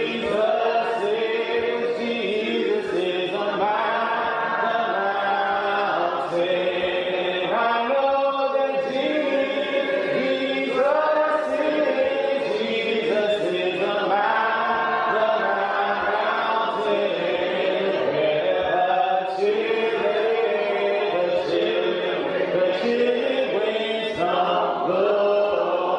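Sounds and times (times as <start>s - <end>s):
congregation singing a hymn: 0.0s - 25.9s.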